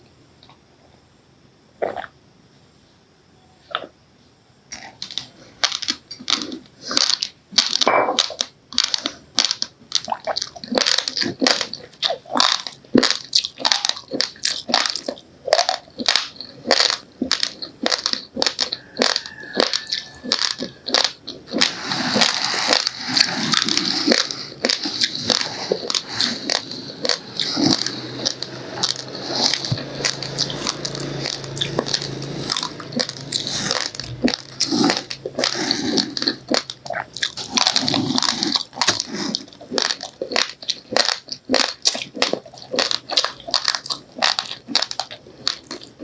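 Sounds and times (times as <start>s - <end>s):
crunching raw rice: 4.7s - 46.0s.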